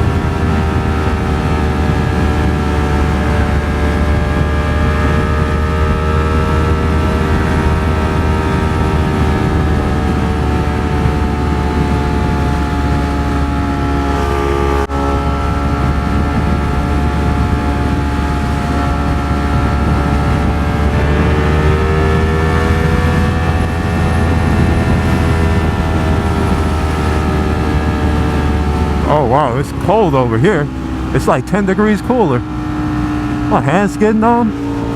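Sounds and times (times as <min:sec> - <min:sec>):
motorcycle engine cruising: 0:00.0 - 0:34.9
wind rumble on microphone: 0:00.0 - 0:34.9.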